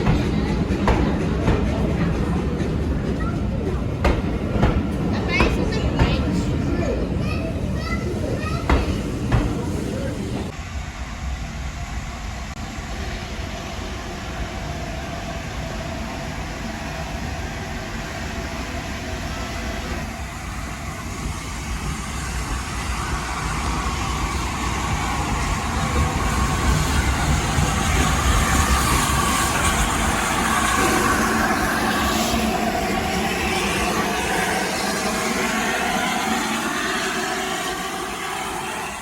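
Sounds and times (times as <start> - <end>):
train rumbling on railway: 0.0 - 39.0.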